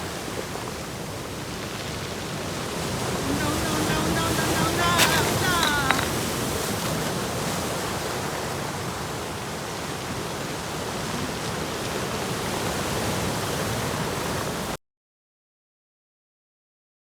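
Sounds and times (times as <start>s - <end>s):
waves breaking: 0.0s - 14.8s.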